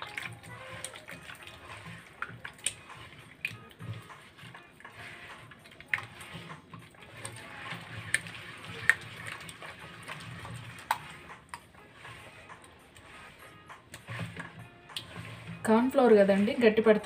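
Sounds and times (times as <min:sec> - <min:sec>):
batter squelching and sloshing: 0:00.0 - 0:17.0.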